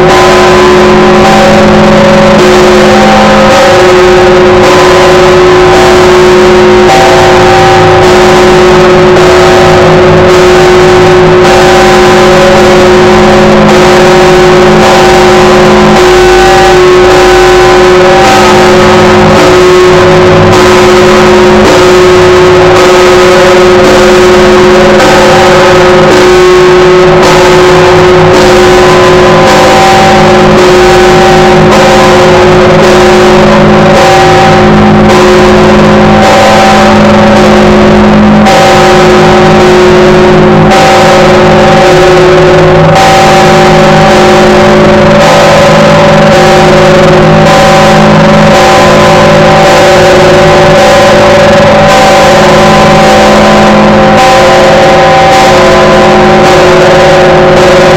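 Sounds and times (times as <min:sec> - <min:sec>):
large church bell ringing: 0:00.0 - 0:57.9.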